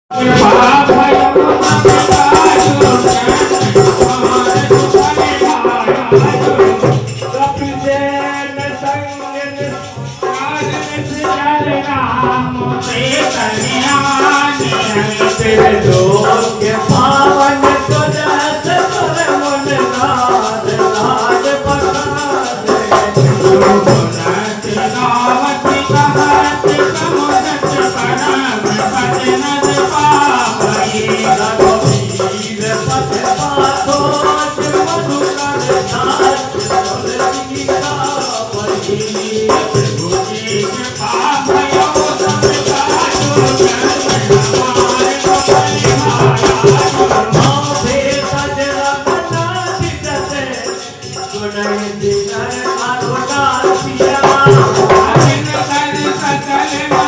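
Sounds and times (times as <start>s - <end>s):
dholak drumming: 0.1s - 57.0s
jingling rattle percussion: 0.1s - 57.0s.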